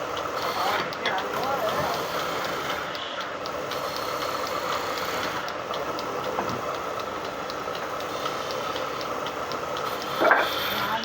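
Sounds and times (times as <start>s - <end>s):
machine running steadily: 0.0s - 11.0s
faint high tick: 0.2s - 10.9s.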